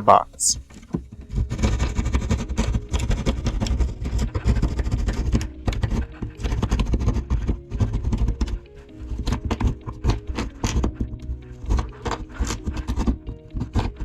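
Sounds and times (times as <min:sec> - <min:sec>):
cable knocking and scraping wall: 0:00.6 - 0:14.0.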